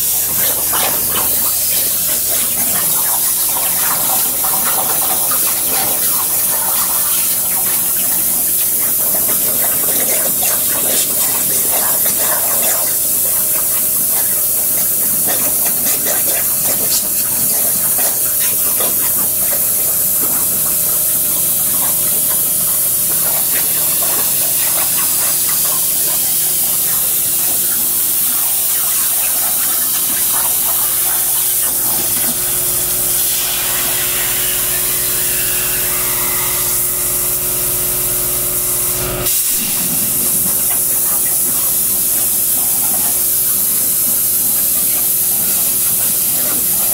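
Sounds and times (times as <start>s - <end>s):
plasma cutter hissing: 0.0s - 46.9s.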